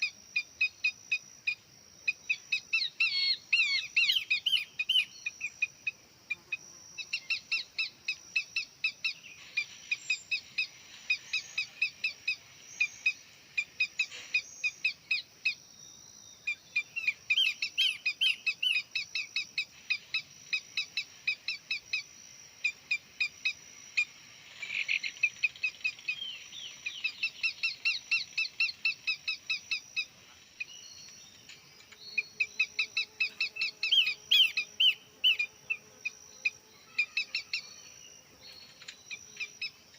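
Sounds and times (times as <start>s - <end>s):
bird chirping: 0.0s - 39.9s
high insect drone: 0.0s - 39.9s.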